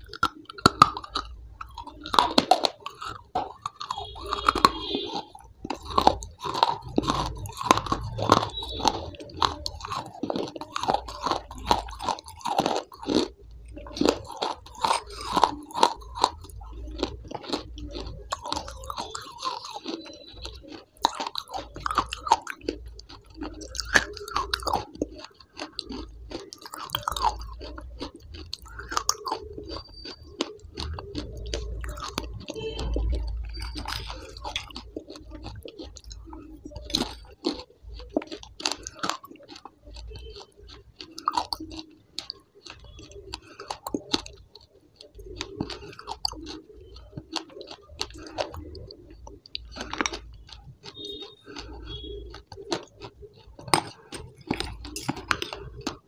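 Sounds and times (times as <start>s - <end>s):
person chewing and crunching food: 0.0s - 56.0s
sharp mouth clicks: 0.0s - 56.0s.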